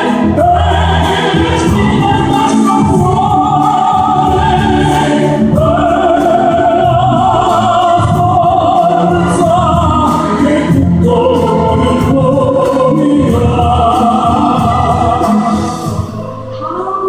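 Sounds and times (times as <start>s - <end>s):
man singing into microphone: 0.0s - 15.8s
instrumental accompaniment: 0.0s - 17.0s.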